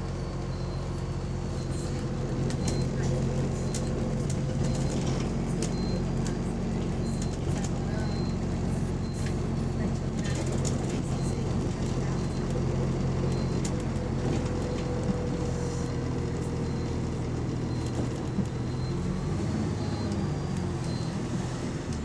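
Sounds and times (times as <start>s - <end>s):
bus engine with exhaust leak: 0.0s - 22.0s.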